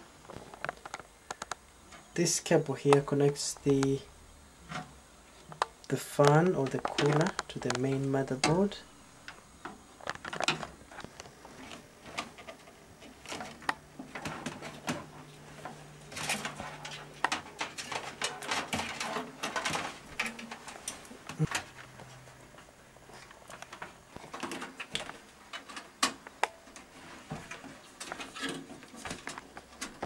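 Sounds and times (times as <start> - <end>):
cables rustling: 0.0 - 30.0
faint low hum: 0.0 - 30.0.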